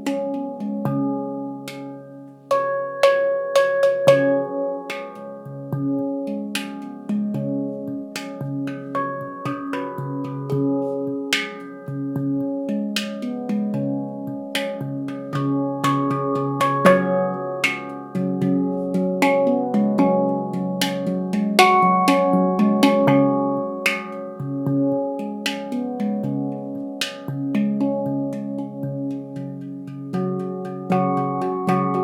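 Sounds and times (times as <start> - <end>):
handpan melody: 0.0 - 32.0.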